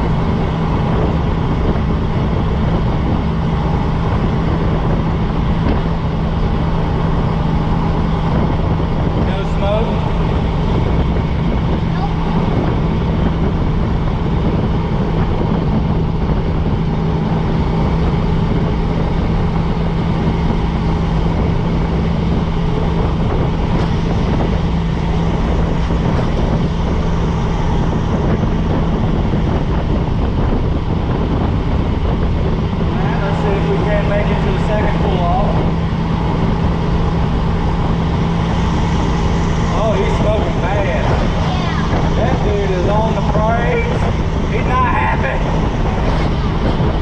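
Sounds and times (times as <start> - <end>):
road noise: 0.0 - 47.0
vehicle engine running: 0.0 - 47.0
wind noise: 0.0 - 47.0.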